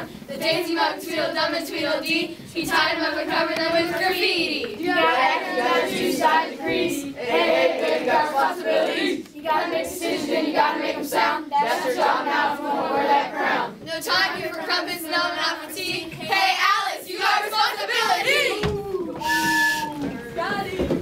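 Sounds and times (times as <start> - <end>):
children singing in chorus: 0.0 - 21.0.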